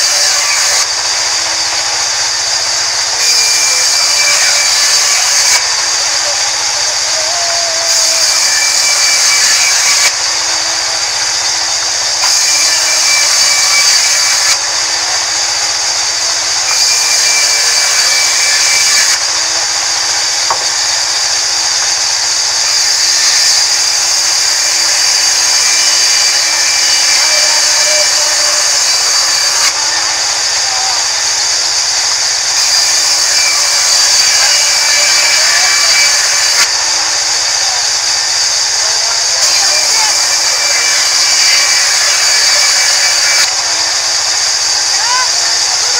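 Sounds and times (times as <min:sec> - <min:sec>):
band saw blade cutting wood: 0:00.0 - 0:44.4.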